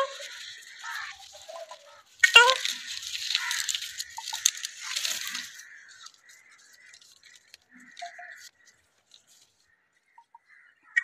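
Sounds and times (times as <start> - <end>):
leaves and twigs rustling: 0.0 - 10.6
faint small sounds: 0.0 - 10.7.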